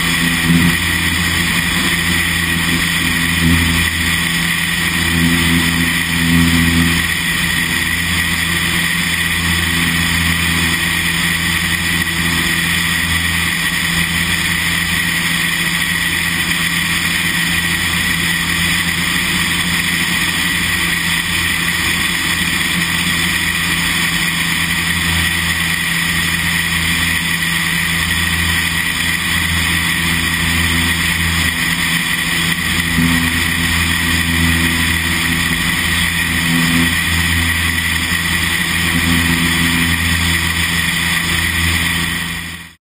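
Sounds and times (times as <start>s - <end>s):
light aircraft engine droning: 0.0s - 42.8s.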